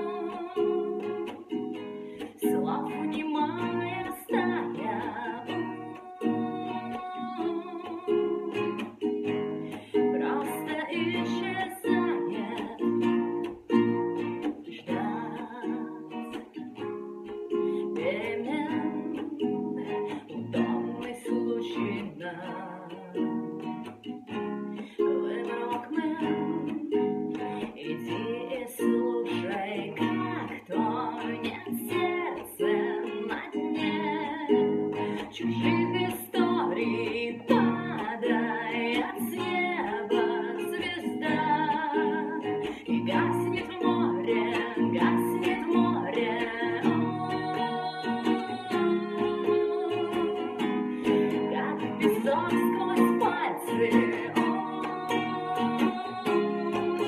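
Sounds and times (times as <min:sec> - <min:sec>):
guitar strummed chords: 0:00.0 - 0:57.0
woman singing: 0:00.0 - 0:57.0.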